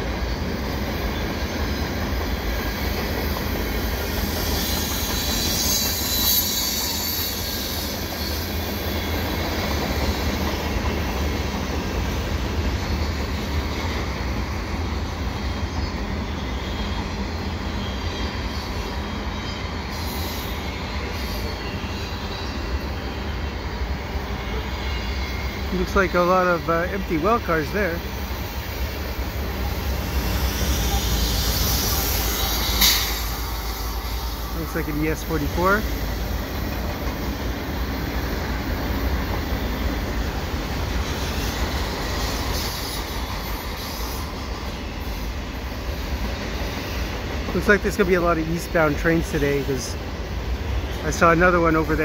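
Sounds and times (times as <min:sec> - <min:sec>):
freight train rolling past: 0:00.0 - 0:52.0
high wheel squeal: 0:00.2 - 0:36.8, 0:37.8 - 0:50.0.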